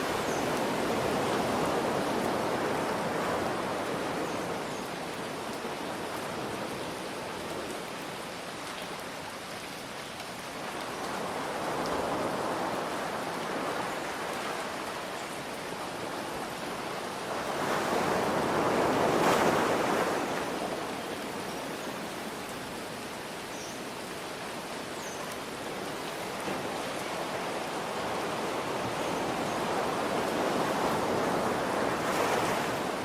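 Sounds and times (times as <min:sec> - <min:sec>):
ocean waves washing in: 0:00.0 - 0:08.0, 0:11.0 - 0:23.0, 0:24.3 - 0:33.0
rain hiss: 0:00.0 - 0:33.0.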